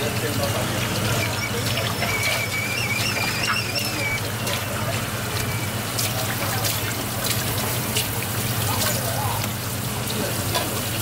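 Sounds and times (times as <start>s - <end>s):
faucet water splashing: 0.0s - 11.0s.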